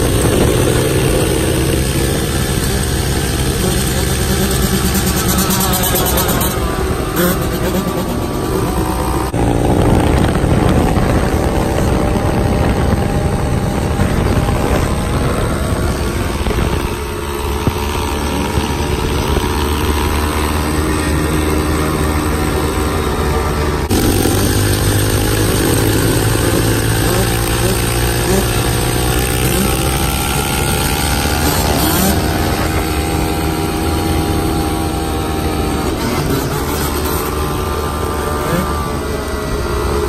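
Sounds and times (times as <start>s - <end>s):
two-stroke dirt bike engine revving: 0.0s - 40.0s.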